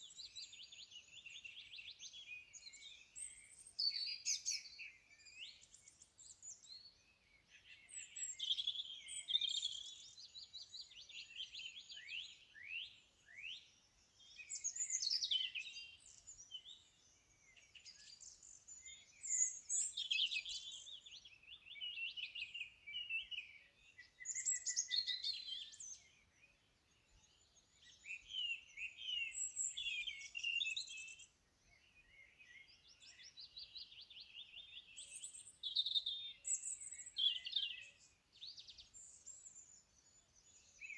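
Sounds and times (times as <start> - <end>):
small songbirds singing and chirping: 0.0 - 40.9.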